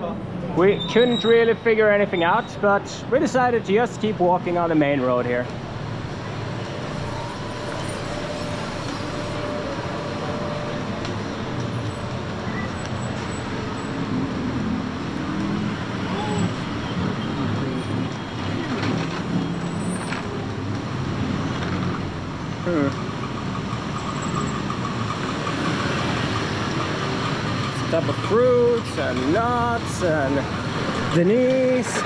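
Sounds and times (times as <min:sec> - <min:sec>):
city traffic passing: 0:00.0 - 0:32.0.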